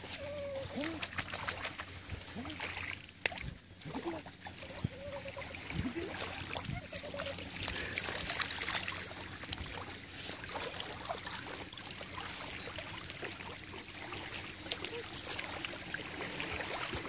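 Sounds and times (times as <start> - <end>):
small waves lapping: 0.0 - 17.0.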